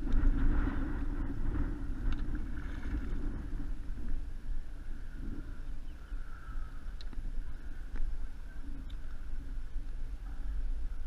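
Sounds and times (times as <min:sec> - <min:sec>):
water lapping around kayak: 0:00.0 - 0:11.0
wind on microphone: 0:00.0 - 0:11.0.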